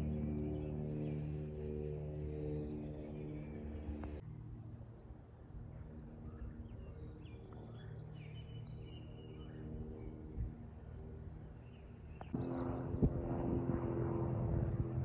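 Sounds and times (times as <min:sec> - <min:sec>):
loud humming drone: 0:00.0 - 0:15.0.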